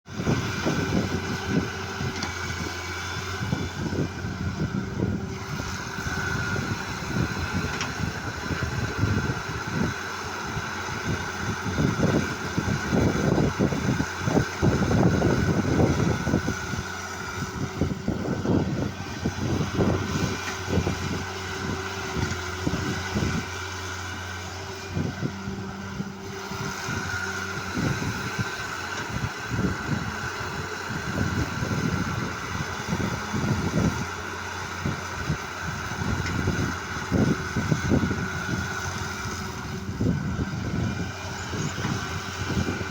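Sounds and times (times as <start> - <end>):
heavy machine engine running: 0.1 - 42.9.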